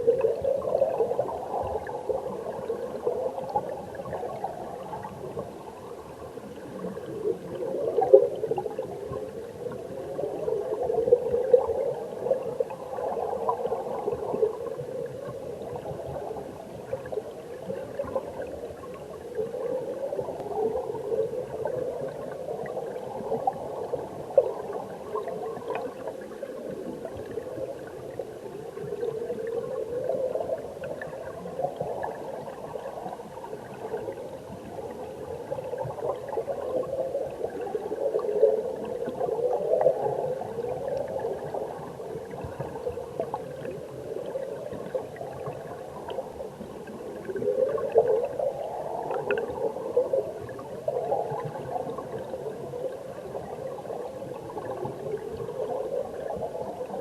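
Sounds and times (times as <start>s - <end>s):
muffled underwater stream rushing: 0.0s - 57.0s
small clicks of bubbles: 0.0s - 57.0s.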